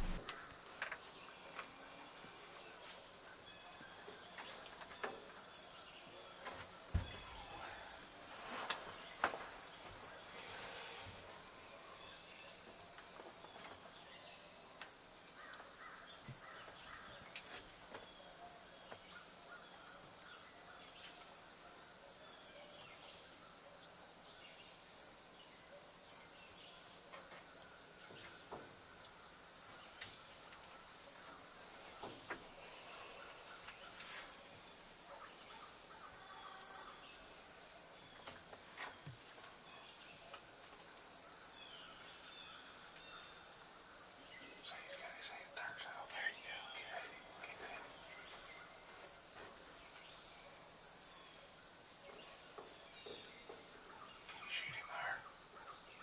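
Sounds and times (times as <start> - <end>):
insect chorus droning: 0.0 - 56.0.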